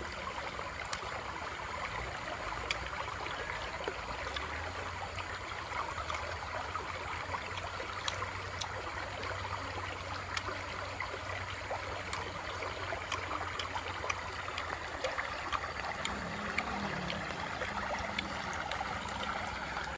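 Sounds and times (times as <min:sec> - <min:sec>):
stream running over rocks: 0:00.0 - 0:19.9.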